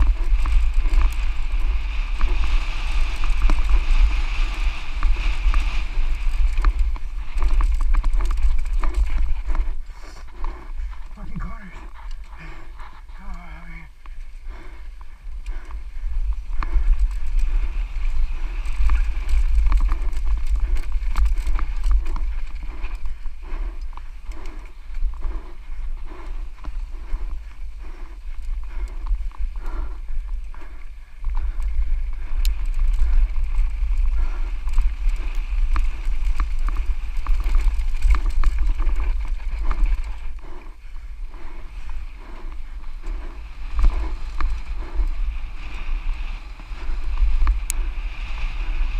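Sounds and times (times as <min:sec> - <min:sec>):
bike rattling over rough ground: 0:00.0 - 0:48.9
wind buffeting microphone: 0:00.0 - 0:48.9.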